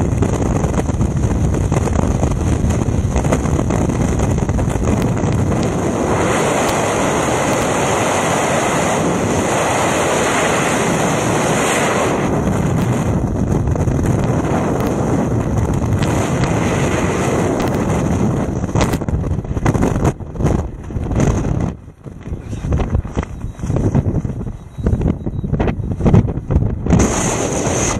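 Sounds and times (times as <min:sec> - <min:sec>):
wind roar on microphone: 0:00.0 - 0:27.9.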